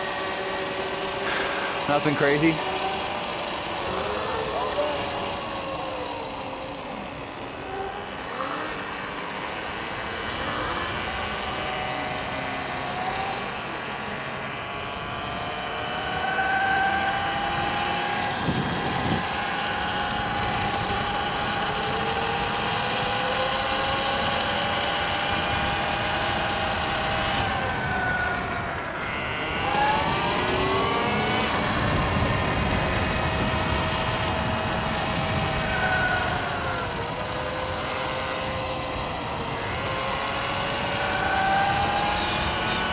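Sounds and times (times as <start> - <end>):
electric dirt bike motors whining: 0.0 - 42.9.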